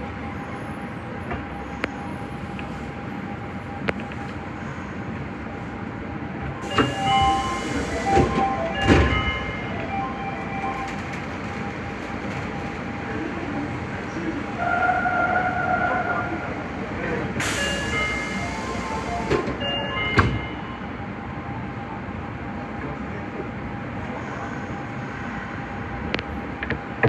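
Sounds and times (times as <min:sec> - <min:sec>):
train running in tunnel: 0:00.0 - 0:27.0.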